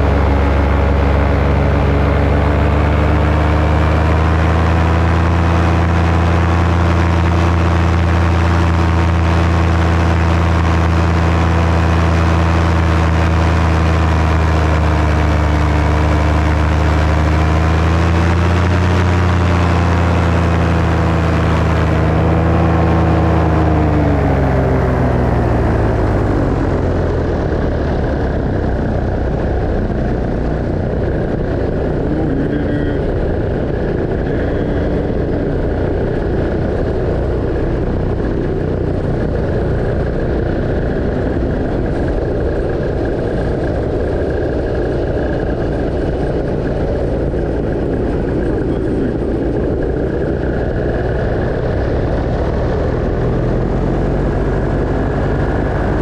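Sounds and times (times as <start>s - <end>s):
paramotor engine and propeller: 0.0s - 56.0s
wind noise on microphone: 0.0s - 56.0s.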